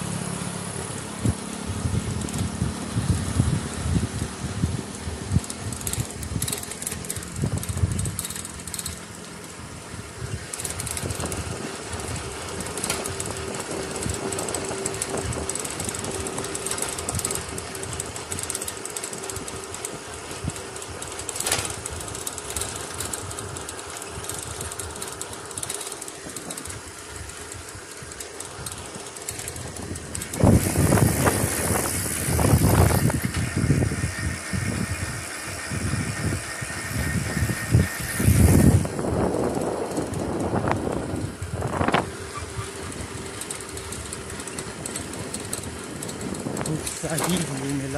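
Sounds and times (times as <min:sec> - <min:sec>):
bicycle rattle and road noise: 0:00.0 - 0:47.9.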